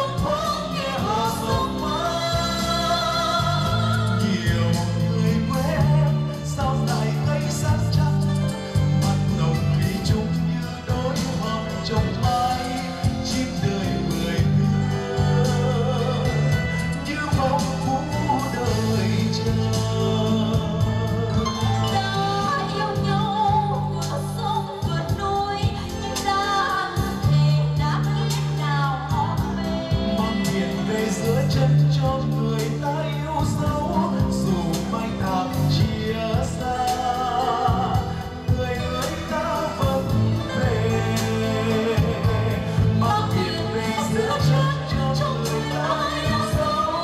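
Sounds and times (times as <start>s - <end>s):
light percussion: 0.0s - 47.0s
low bass notes: 0.0s - 47.0s
person singing into microphones: 0.0s - 47.0s.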